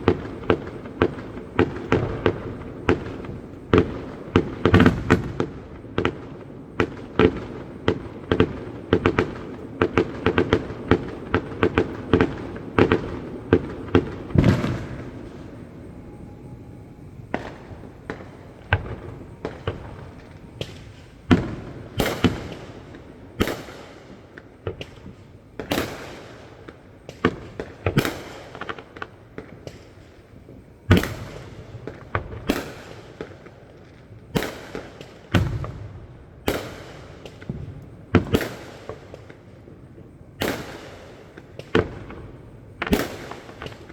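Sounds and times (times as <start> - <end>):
fireworks bangs and crackles: 0.0 - 43.9
fireworks booms: 0.0 - 43.9.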